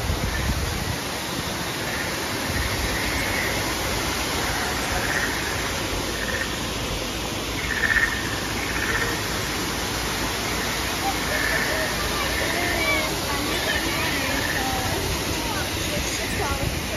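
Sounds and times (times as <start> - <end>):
waterfalls rushing: 0.0 - 16.9.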